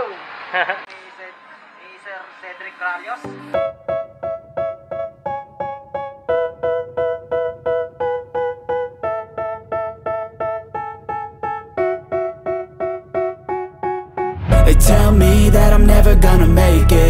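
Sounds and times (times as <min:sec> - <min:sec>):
keyboard playing repeated chords: 0:03.2 - 0:17.0.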